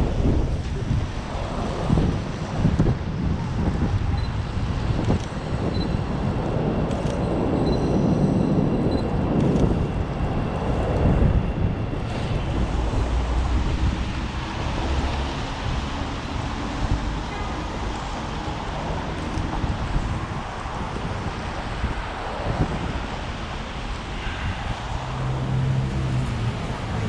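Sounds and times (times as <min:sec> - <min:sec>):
city street traffic: 0:00.0 - 0:27.0
strong wind buffeting microphone: 0:00.0 - 0:27.0.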